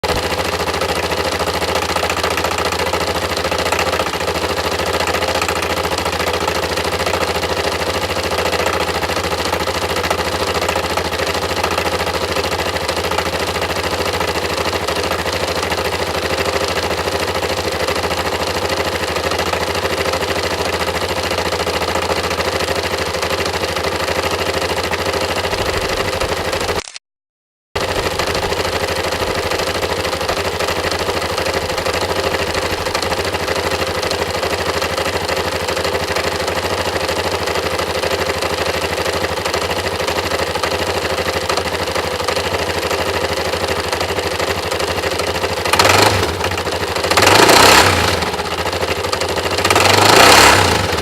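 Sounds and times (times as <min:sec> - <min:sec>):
rapid engine knocking: 0:00.0 - 0:26.6, 0:27.8 - 0:51.0
motorcycle engine idling: 0:00.0 - 0:26.8, 0:27.8 - 0:51.0.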